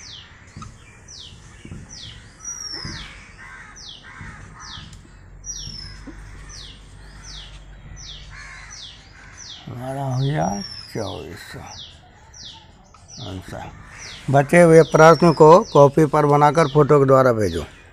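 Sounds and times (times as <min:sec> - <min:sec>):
bird calling: 0:00.0 - 0:17.9.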